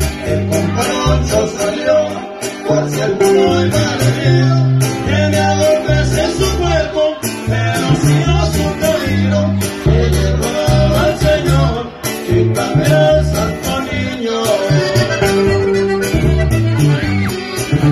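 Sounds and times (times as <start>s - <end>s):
deep bass line: 0.0s - 17.9s
strummed guitars: 0.0s - 17.9s.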